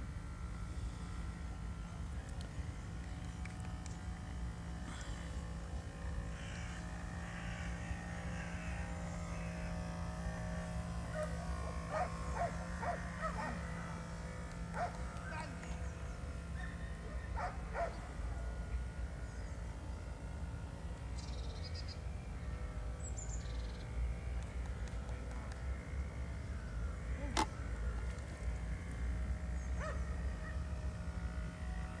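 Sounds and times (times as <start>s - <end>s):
faint hum: 0.0s - 32.0s.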